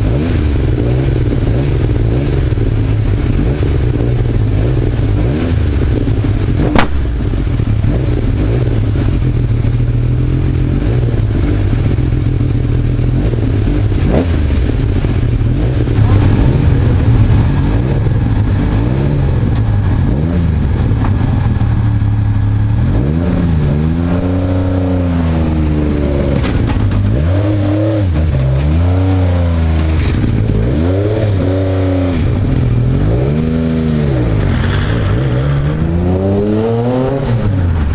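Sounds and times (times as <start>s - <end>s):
engine idling and revving: 0.0s - 37.9s.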